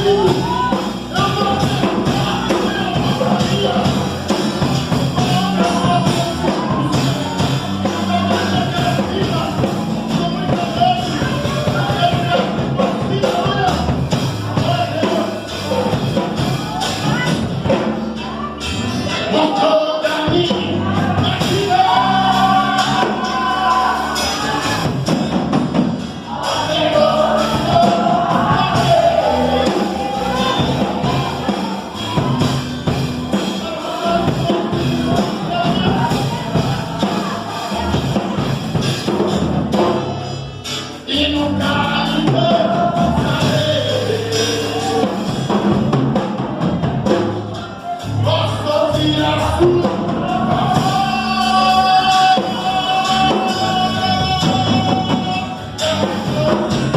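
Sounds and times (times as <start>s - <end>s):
band accompaniment: 0.0s - 56.9s
man singing: 0.0s - 56.9s.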